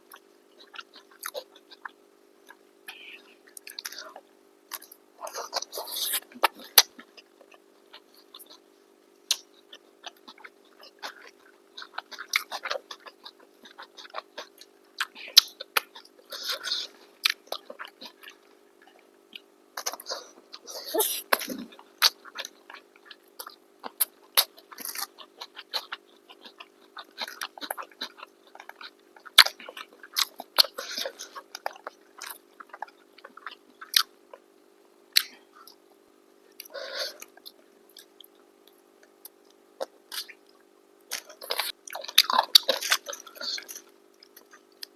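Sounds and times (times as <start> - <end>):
people chewing food: 0.0 - 44.9.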